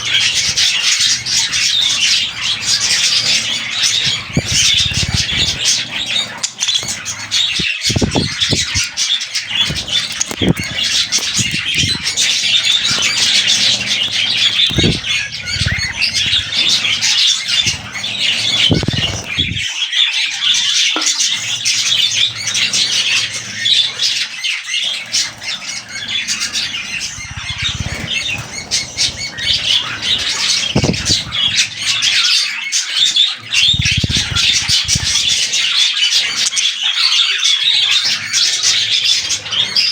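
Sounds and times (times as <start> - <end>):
wings flapping: 0.0 - 36.8, 37.7 - 39.9
budgerigars chattering and squawking: 0.0 - 39.9.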